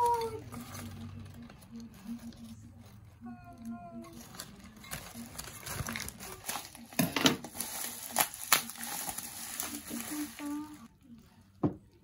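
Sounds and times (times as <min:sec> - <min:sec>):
newspaper and bubble wrap crinkling: 0:00.0 - 0:10.9.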